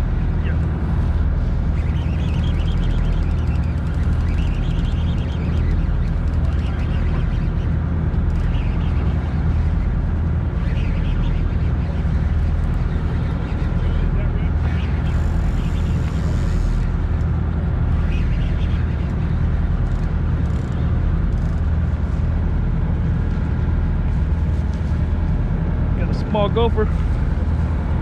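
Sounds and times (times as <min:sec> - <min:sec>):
boat engine droning: 0:00.0 - 0:28.0
wind rumbling on microphone: 0:00.0 - 0:28.0.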